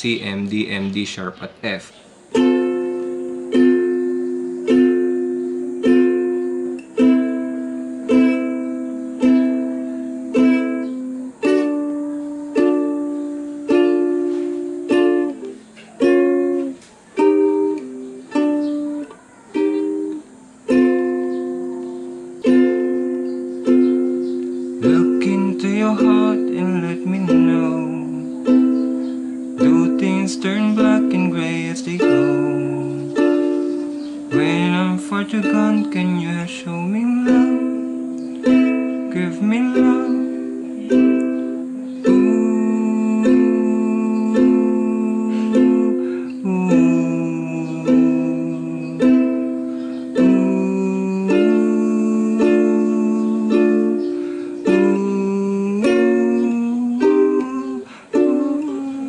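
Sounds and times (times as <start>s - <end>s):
ukulele strumming chords: 0.0s - 59.0s.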